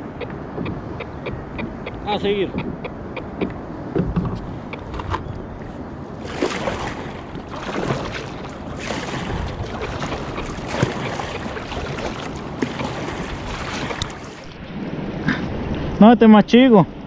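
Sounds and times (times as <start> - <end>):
water sloshing against kayak: 0.0 - 15.9.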